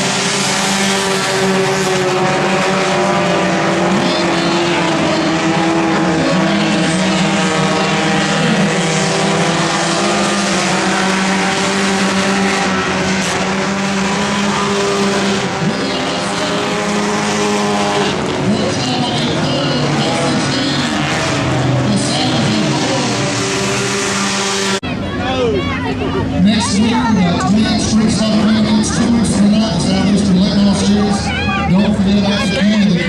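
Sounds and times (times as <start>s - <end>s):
race car engines running: 0.0s - 33.0s.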